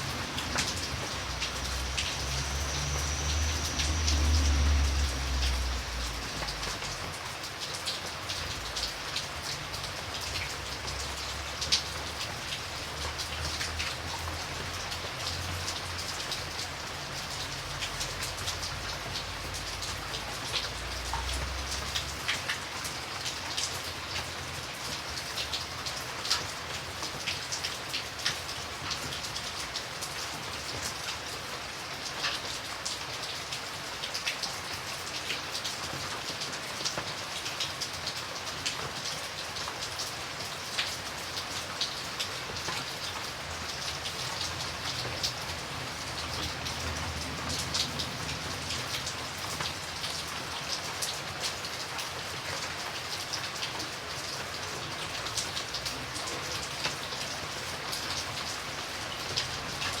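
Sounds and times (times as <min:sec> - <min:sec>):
rain falling: 0:00.0 - 1:00.0
raindrops ticking on a surface: 0:00.0 - 1:00.0.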